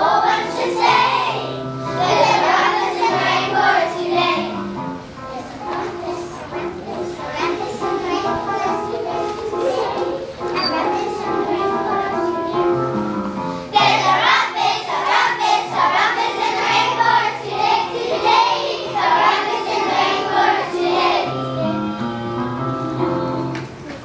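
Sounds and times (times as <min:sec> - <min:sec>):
children singing together: 0:00.0 - 0:23.8
keyboard accompaniment: 0:00.0 - 0:24.0.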